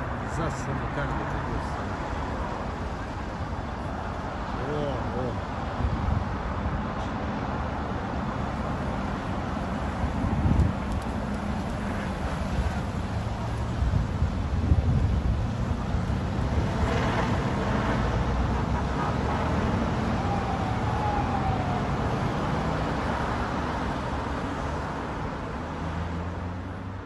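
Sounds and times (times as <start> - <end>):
rumble of passing vehicles: 0.0 - 27.0.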